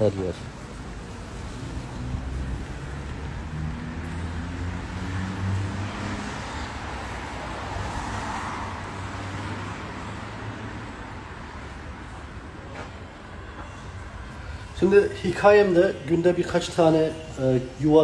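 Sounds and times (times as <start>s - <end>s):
vehicle engine humming: 0.0s - 14.9s
car passing with tyre noise: 0.0s - 18.0s.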